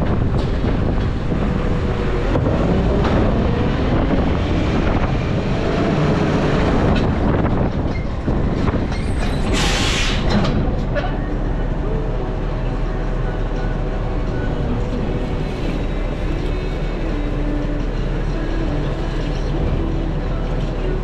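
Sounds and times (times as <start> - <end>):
garbage truck rumbling: 0.0 - 21.0.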